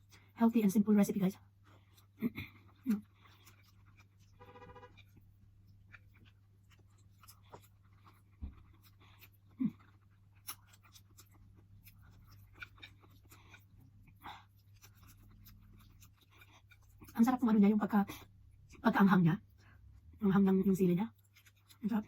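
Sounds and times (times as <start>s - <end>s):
soft chewing: 0.0s - 0.4s, 1.0s - 22.0s.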